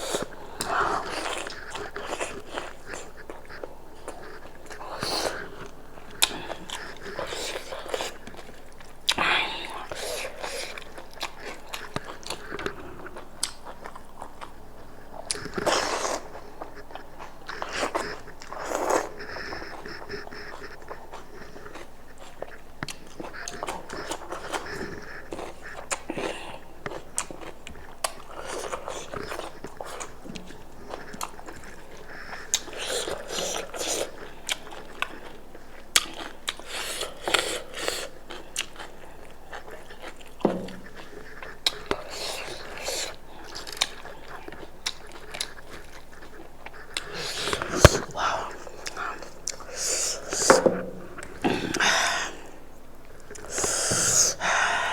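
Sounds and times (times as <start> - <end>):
chewing and biting food: 0.0 - 54.9.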